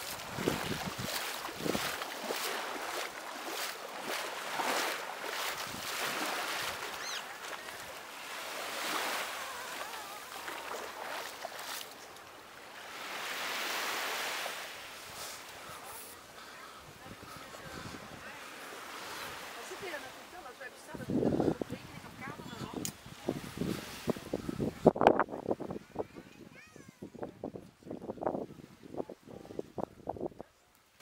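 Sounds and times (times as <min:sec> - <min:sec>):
sea waves washing onto beach: 0:00.0 - 0:26.9.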